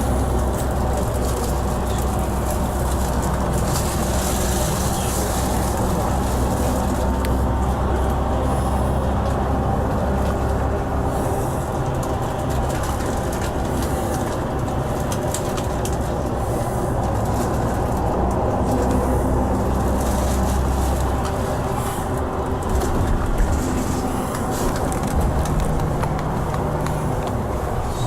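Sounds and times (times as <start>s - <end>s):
bus engine drone: 0.0s - 28.0s
road noise: 0.0s - 28.0s.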